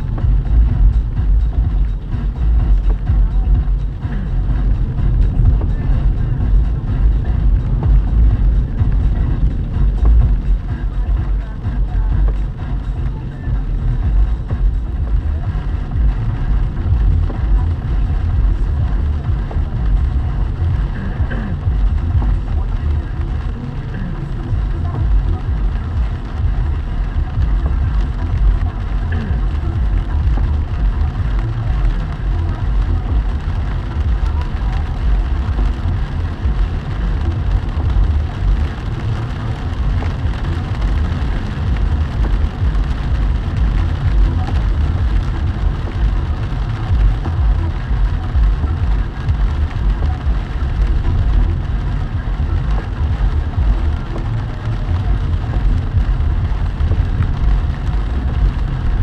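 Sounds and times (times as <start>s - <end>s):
car driving low rumble: 0.0s - 59.0s
rain hissing on car: 0.0s - 59.0s.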